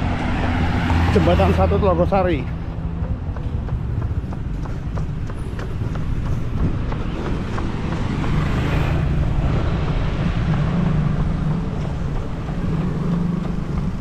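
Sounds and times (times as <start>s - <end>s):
motorcycle engines passing: 0.0s - 14.0s
street traffic: 0.0s - 14.0s.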